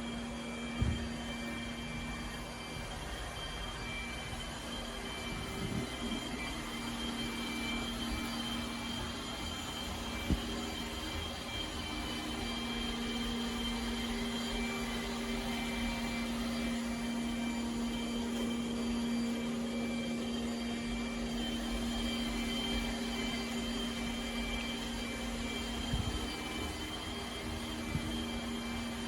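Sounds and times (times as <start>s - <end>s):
robot vacuum motor whirring: 0.0s - 29.0s.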